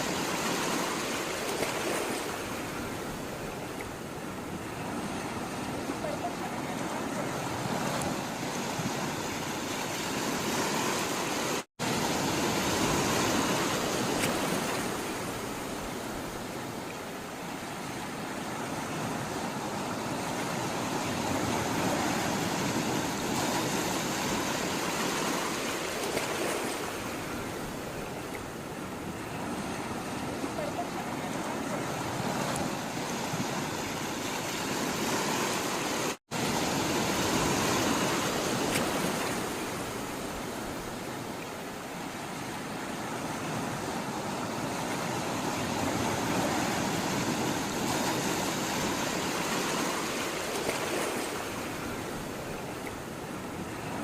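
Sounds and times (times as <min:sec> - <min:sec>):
sea waves washing in: 0:00.0 - 0:54.0.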